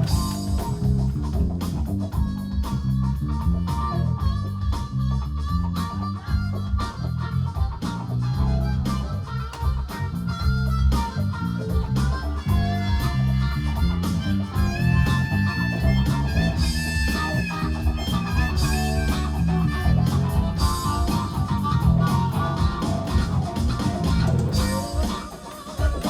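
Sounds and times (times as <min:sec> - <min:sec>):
bass line: 0:00.0 - 0:25.2
drums: 0:00.0 - 0:26.0
electric guitar: 0:00.0 - 0:26.0.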